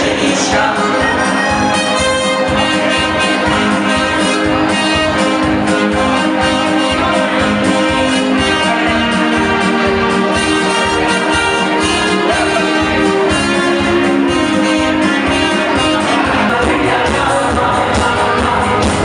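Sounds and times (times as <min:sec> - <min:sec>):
brass-led dance band music: 0:00.0 - 0:19.0.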